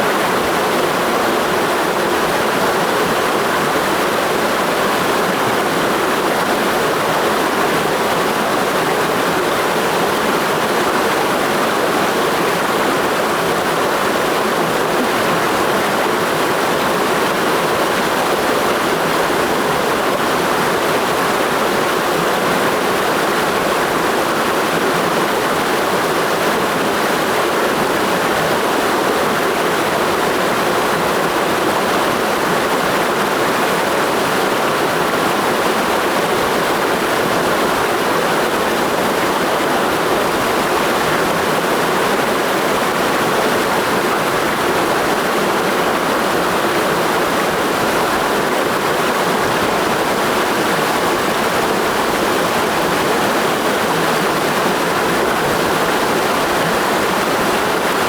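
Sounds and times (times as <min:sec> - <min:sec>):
mountain stream rushing over rocks: 0:00.0 - 0:58.0.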